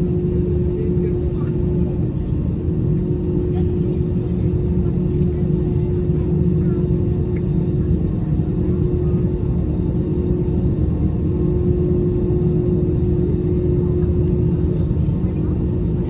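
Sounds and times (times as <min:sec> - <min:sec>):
aircraft cabin rumble and hum: 0:00.0 - 0:16.0.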